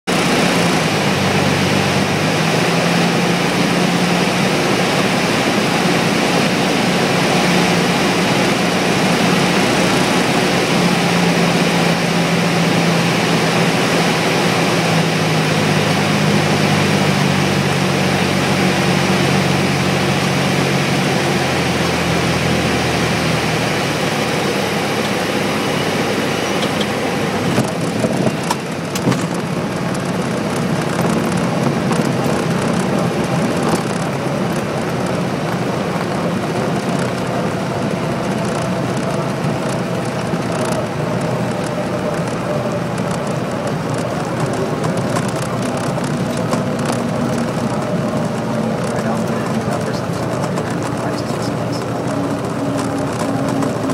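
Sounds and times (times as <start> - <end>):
airplane engine drone: 0.1 - 53.9.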